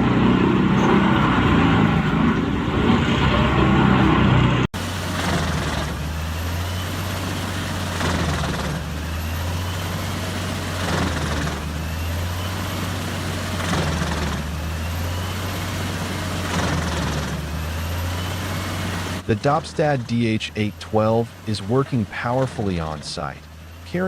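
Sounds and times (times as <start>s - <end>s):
wood chipper engine drone: 0.0s - 24.0s.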